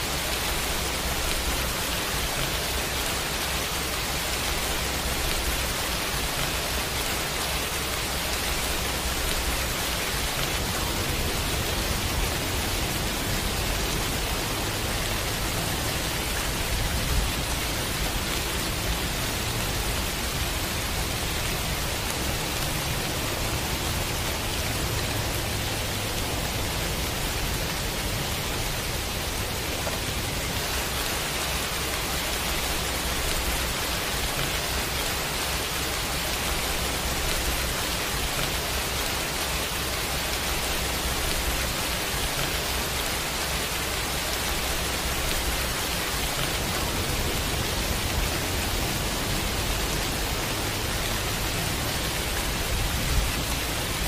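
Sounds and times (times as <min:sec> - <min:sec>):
pouring rain: 0:00.0 - 0:54.0.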